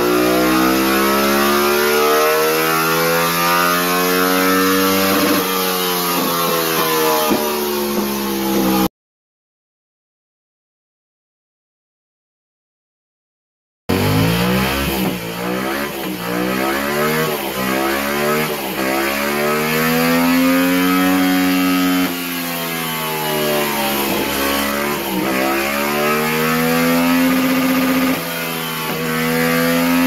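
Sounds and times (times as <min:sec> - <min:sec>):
motorcycle engine revving hard: 0:00.0 - 0:08.9, 0:13.9 - 0:30.0.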